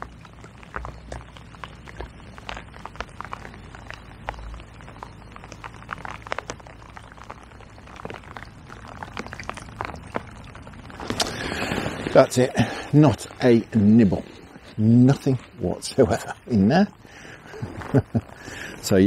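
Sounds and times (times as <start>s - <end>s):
raindrops tapping: 0.0s - 19.0s.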